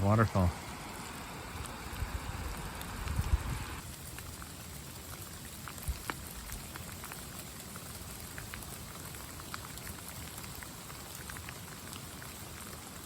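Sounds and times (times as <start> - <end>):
steady rain hiss: 0.0 - 13.0
raindrops ticking: 0.1 - 13.0.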